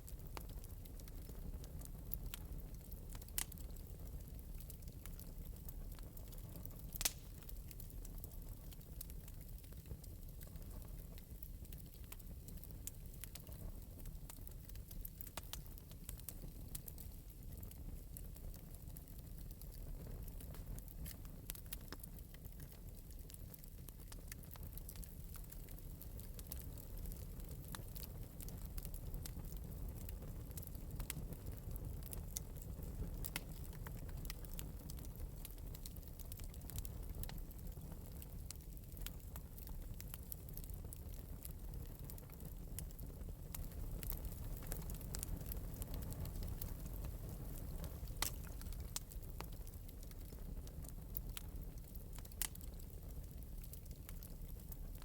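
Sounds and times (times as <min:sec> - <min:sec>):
fire crackling and popping: 0:00.0 - 0:55.0
fire low rumble: 0:00.0 - 0:55.0.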